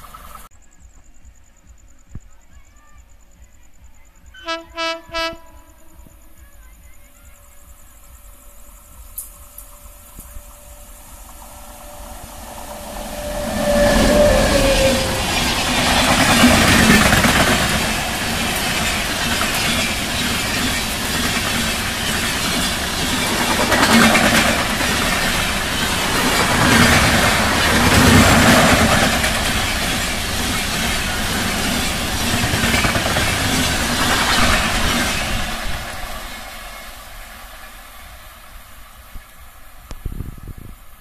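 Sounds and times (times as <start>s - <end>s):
train wheels rumbling on rails: 4.9s - 41.0s.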